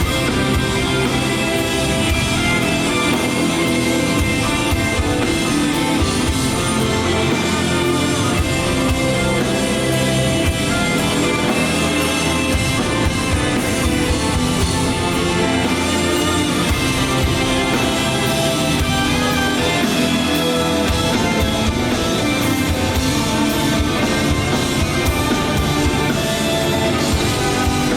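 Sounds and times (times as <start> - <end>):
drum kit beat: 0.0 - 27.9
guitars: 0.0 - 27.9.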